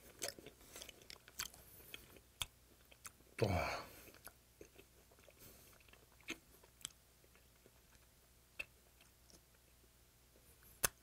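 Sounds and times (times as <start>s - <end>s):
faint chewing: 0.0s - 9.6s.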